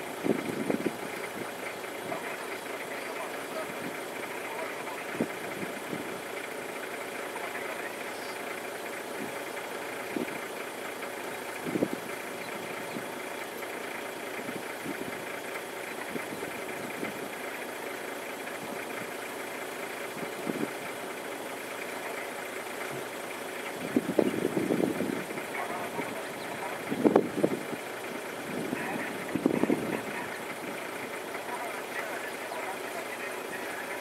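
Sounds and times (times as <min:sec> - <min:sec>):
vehicle engine idling: 0:00.0 - 0:34.0.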